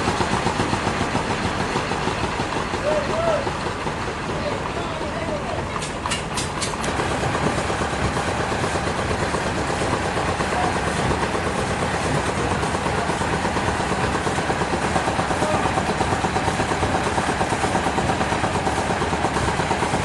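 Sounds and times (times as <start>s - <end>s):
sawmill machinery pulsing: 0.0s - 20.0s.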